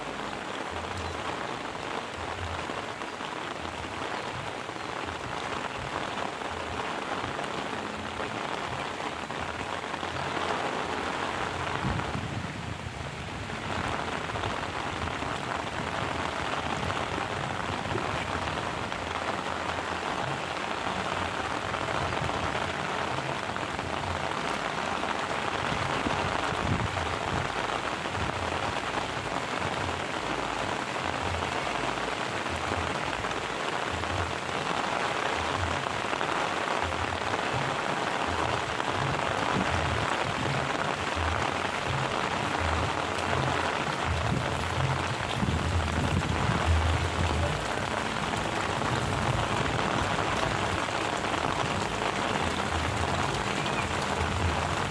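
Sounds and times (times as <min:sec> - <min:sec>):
heavy rain hissing: 0:00.0 - 0:54.9.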